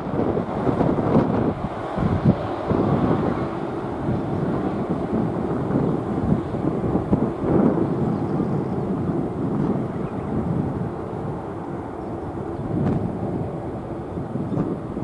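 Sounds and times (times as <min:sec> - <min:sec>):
jet engines rumbling at takeoff: 0:00.0 - 0:15.0.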